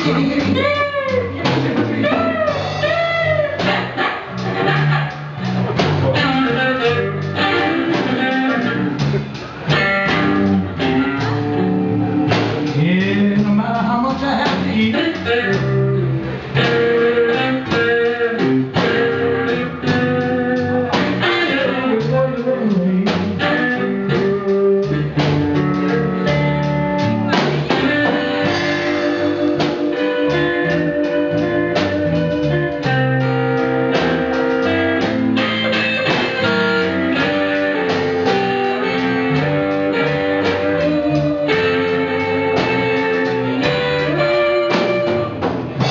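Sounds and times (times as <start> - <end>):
guitar tune with steady beat: 0.0 - 45.9.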